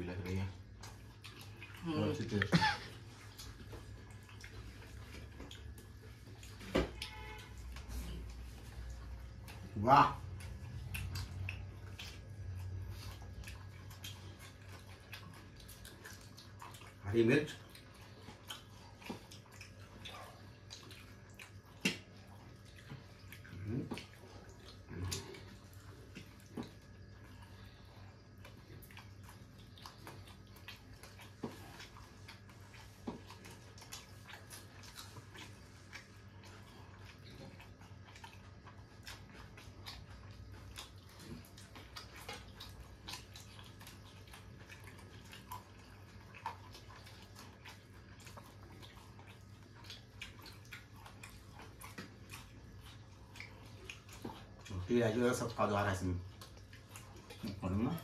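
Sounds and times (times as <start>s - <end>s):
people eating and chewing: 0.0s - 58.0s
steady low hum: 0.0s - 58.0s.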